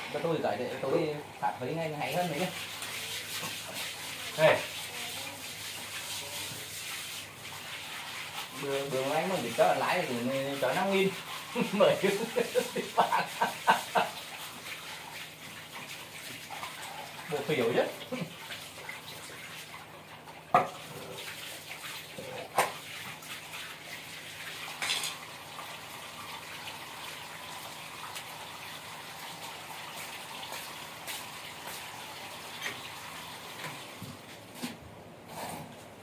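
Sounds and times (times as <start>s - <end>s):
hose water on concrete: 0.0s - 36.0s.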